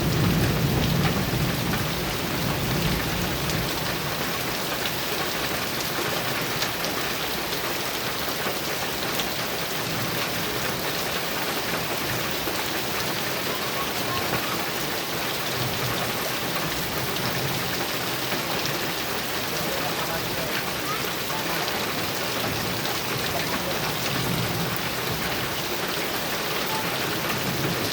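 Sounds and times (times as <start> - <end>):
heavy rain on a metal roof: 0.0 - 27.9.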